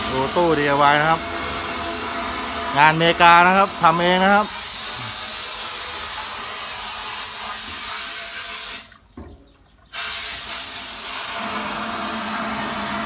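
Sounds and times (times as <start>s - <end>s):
wet-blasting gun hissing: 0.0s - 8.9s, 9.9s - 13.0s.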